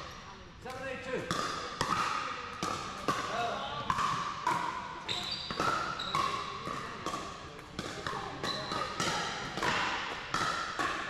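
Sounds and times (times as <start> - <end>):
paddles striking plastic balls: 0.7 - 4.8, 5.5 - 11.0.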